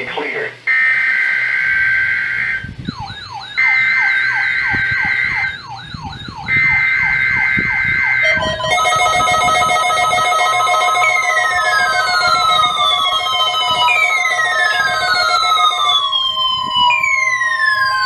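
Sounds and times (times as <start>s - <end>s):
two-tone data buzz: 0.7s - 16.1s
electronic alarm chord: 0.7s - 18.0s
falling electronic sweeps: 0.7s - 18.0s
warbling high tone: 0.7s - 18.0s.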